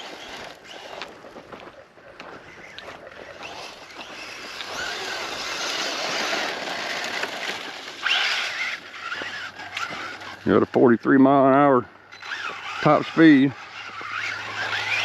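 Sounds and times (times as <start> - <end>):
electric motor whining: 0.0 - 15.0
tyres churning sand: 0.0 - 15.0.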